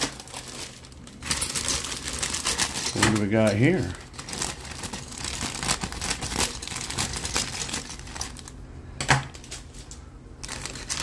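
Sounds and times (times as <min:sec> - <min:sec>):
plastic parts rattling in bag: 0:00.0 - 0:08.5, 0:10.4 - 0:11.0.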